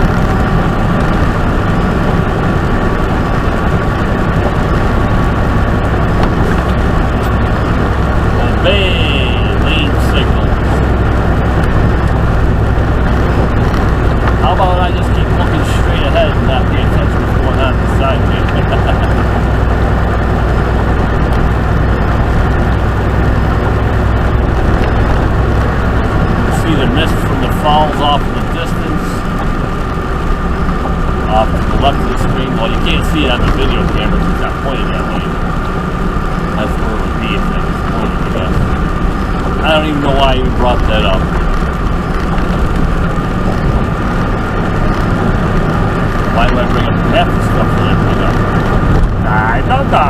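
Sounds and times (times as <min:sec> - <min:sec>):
truck engine rumble: 0:00.0 - 0:50.0
tyre noise on wet road: 0:00.0 - 0:50.0.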